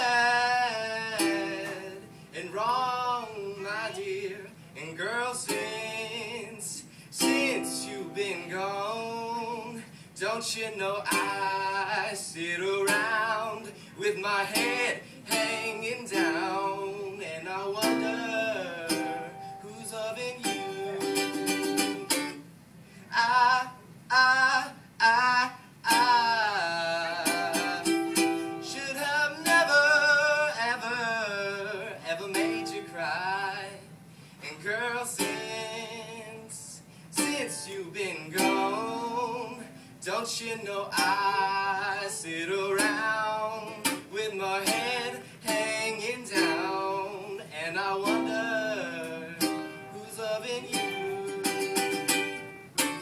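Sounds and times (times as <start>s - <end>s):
ukulele strumming: 0.0s - 4.4s, 5.1s - 6.6s, 7.2s - 9.8s, 10.7s - 22.5s, 25.8s - 33.9s, 34.5s - 36.6s, 37.2s - 53.0s
man singing: 0.0s - 22.2s, 23.1s - 53.0s.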